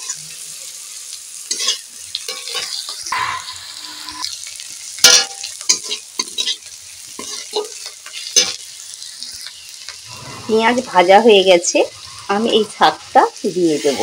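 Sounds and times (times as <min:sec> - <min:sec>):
onions sizzling in hot oil: 0:00.0 - 0:14.0
metal spatula scraping a pan: 0:01.4 - 0:13.0, 0:13.7 - 0:14.0.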